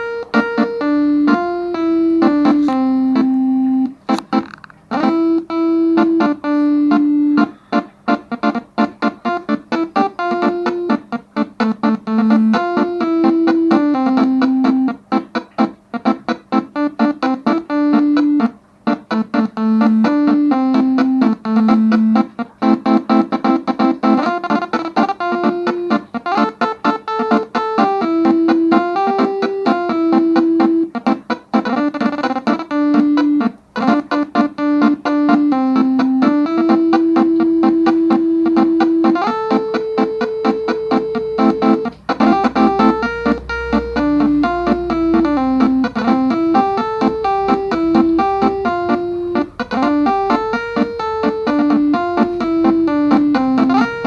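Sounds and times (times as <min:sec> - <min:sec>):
staccato keyboard melody: 0:00.0 - 0:54.0.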